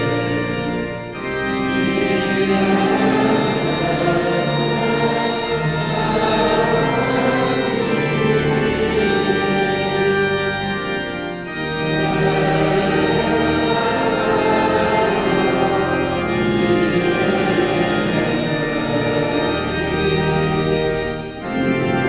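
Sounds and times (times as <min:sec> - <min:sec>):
pipe organ playing a hymn: 0:00.0 - 0:22.0.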